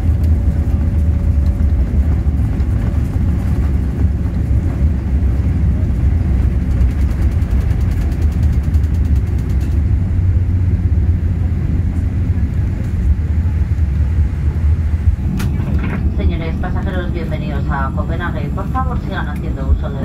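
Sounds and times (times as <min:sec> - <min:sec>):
airliner cabin low rumble: 0:00.0 - 0:20.0.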